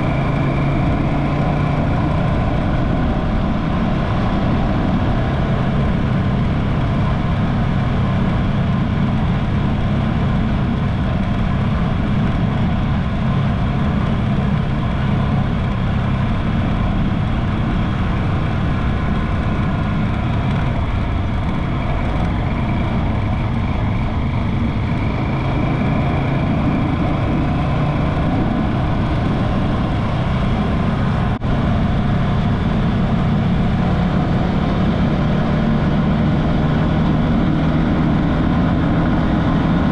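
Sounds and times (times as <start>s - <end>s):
motorcycle engine running: 0.0s - 39.9s
road and air noise: 0.0s - 39.9s.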